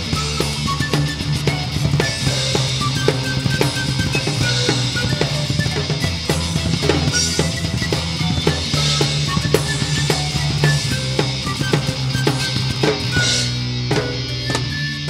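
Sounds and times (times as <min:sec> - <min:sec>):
metal band playing: 0:00.0 - 0:15.0.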